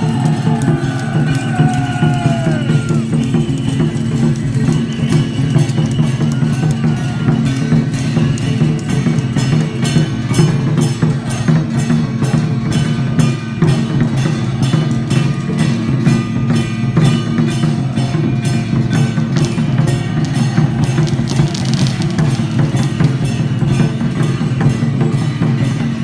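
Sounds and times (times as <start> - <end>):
drums and wooden percussion: 0.0 - 26.0.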